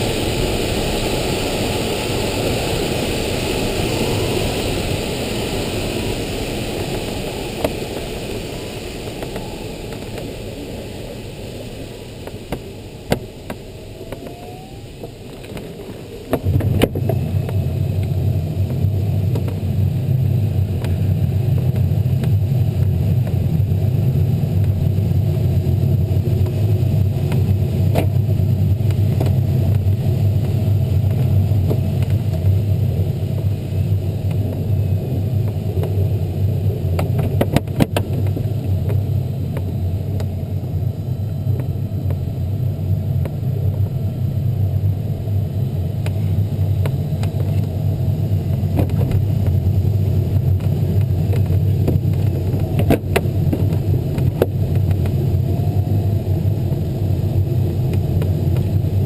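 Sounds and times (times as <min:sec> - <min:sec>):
airflow rushing over canopy: 0:00.0 - 0:59.0
low rumble: 0:00.0 - 0:59.0.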